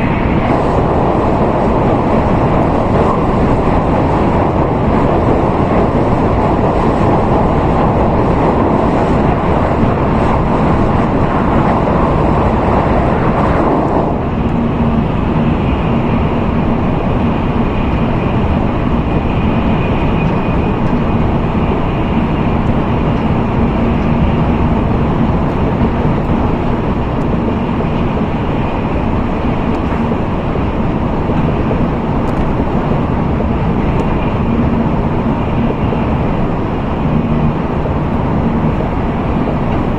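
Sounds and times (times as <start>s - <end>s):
train rushing ride noise: 0.0s - 39.9s.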